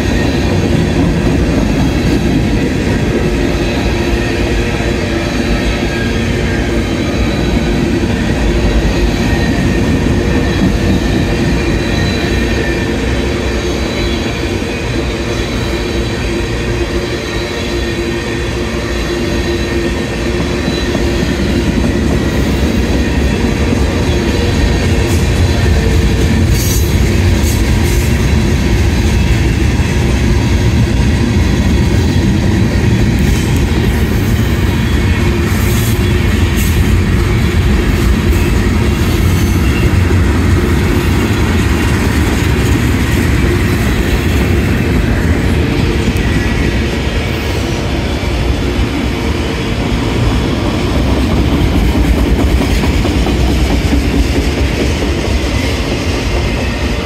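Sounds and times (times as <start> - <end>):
high wheel squeal: 0.0 - 48.7
freight cars rumbling on rail: 0.0 - 57.0.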